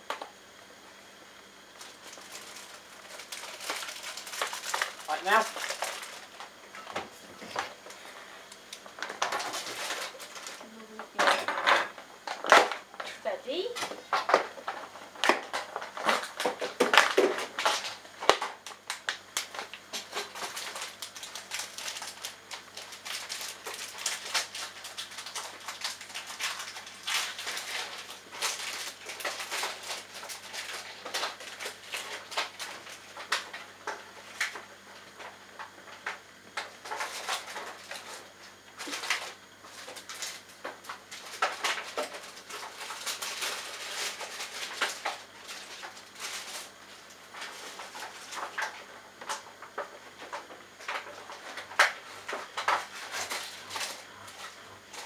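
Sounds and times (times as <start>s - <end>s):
washing machine tumbling laundry: 0.0s - 55.0s.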